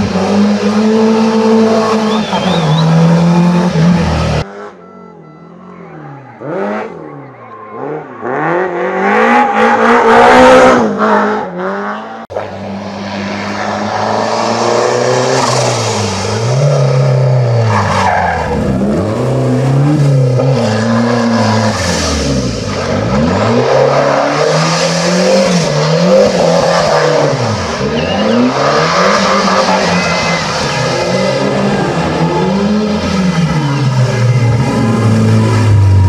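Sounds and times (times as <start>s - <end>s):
rally car engine revving: 0.0s - 4.8s, 5.6s - 36.0s.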